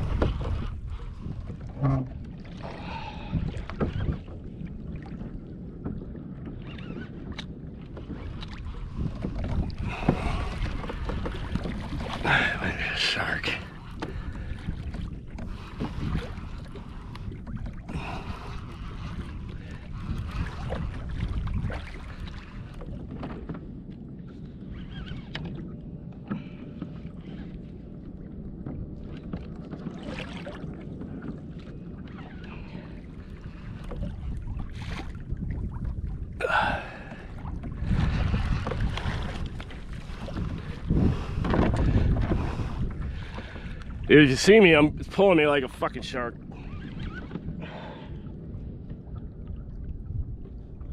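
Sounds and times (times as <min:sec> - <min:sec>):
water sloshing against hull: 0:00.0 - 0:50.9
wind on microphone: 0:00.0 - 0:50.9.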